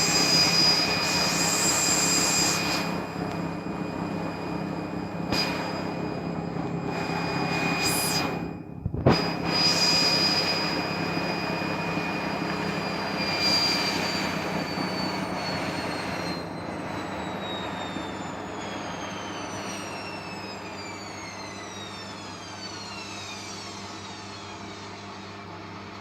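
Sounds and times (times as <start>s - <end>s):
washing machine motor whine: 0.0s - 26.0s.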